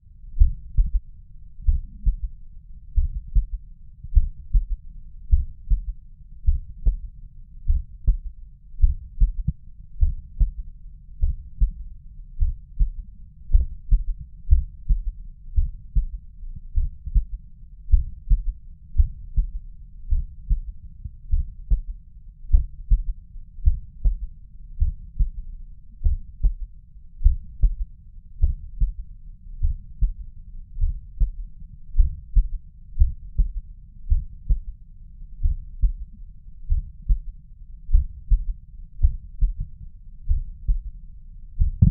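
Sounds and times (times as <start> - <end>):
heartbeat through stethoscope: 0.3 - 41.9.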